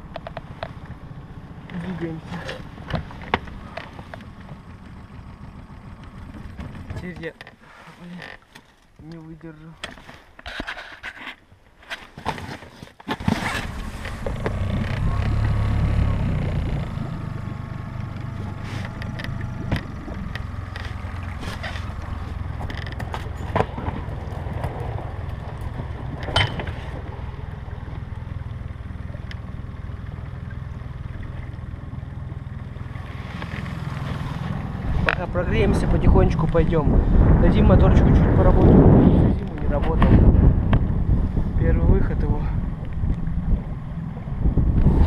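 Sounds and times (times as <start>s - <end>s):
outboard boat motor running: 0.0s - 9.0s, 13.2s - 45.0s.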